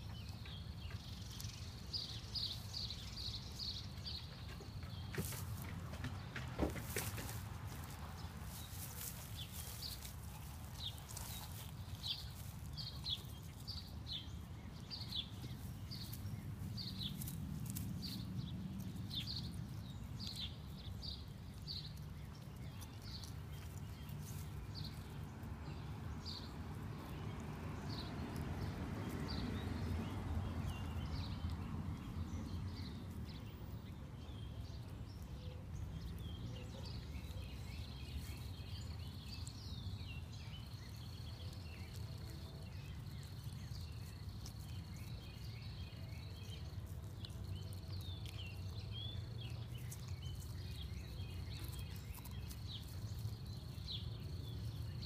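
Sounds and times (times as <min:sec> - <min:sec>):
low outdoor rumble: 0:00.0 - 0:55.0
rustling dry straw: 0:01.0 - 0:55.0
puppy chewing and crunching egg: 0:03.9 - 0:55.0.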